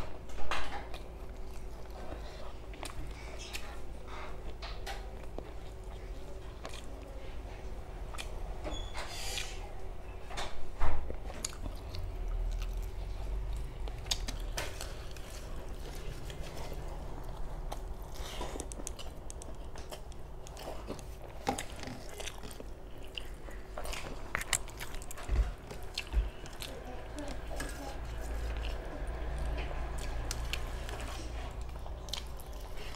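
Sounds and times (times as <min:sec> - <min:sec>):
chewing and lip-smacking: 0:00.8 - 0:09.6, 0:11.1 - 0:32.9.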